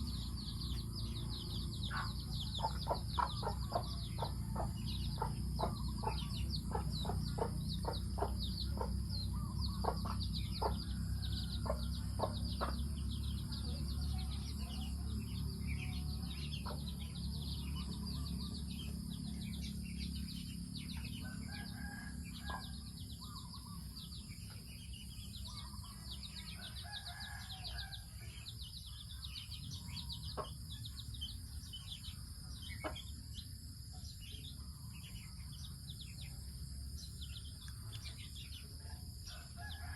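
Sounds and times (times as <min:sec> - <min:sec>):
chickens clucking: 0:00.0 - 0:27.8, 0:29.2 - 0:34.2
high bird chirping: 0:00.0 - 0:38.8.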